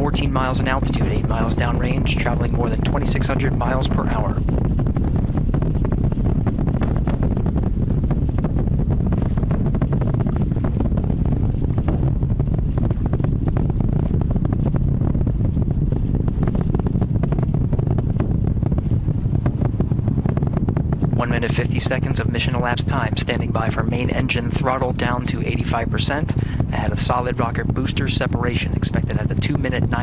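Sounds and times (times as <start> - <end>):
dense crackling: 0.0 - 30.0
rocket engines deep roar: 0.0 - 30.0.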